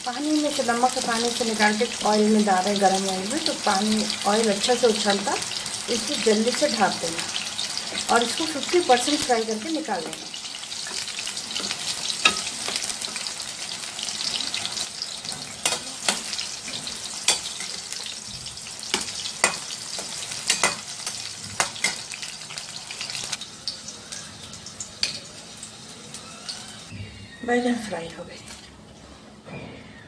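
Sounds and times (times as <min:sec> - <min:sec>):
eggplants sizzling in hot oil: 0:00.0 - 0:28.7.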